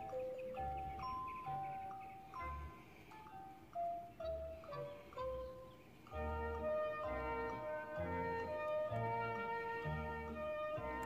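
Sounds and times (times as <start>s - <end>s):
bell-like melody: 0.0s - 11.0s.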